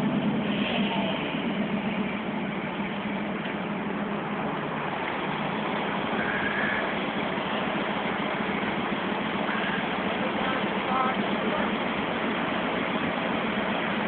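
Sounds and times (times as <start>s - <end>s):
car engine humming: 0.0s - 14.0s
water washing: 0.0s - 14.0s.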